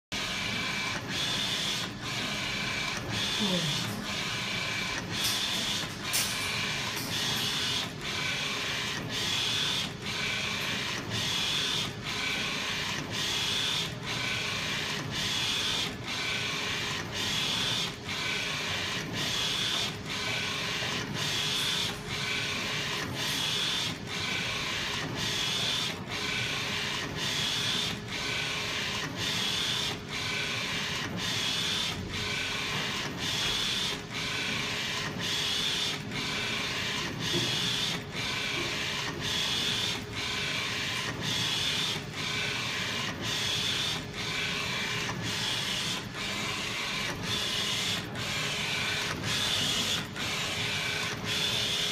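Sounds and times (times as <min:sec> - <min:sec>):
printer carriage whirring: 0:00.1 - 0:51.9.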